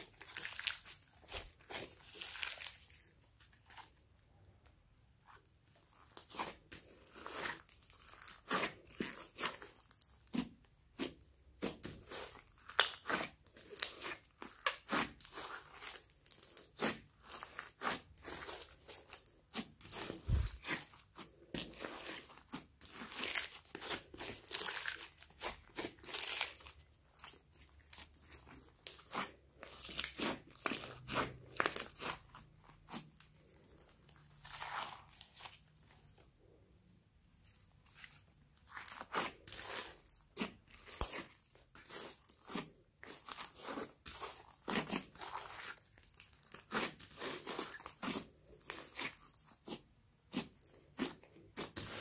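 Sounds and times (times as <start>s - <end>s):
slime squelching and popping: 0.0s - 3.1s, 5.8s - 35.7s, 37.9s - 52.0s.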